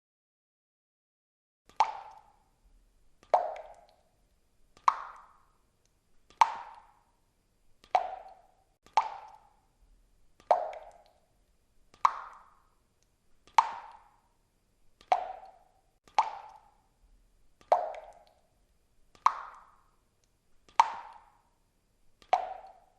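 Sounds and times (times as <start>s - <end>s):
water drops plopping into water: 1.7s - 7.2s, 7.8s - 21.6s, 22.2s - 22.9s.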